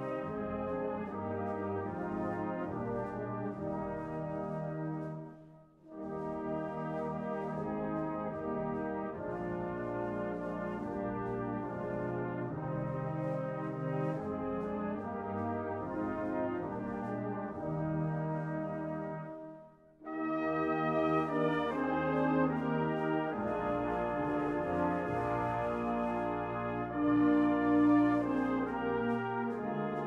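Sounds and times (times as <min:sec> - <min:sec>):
brass-like hymn chords: 0:00.0 - 0:30.0.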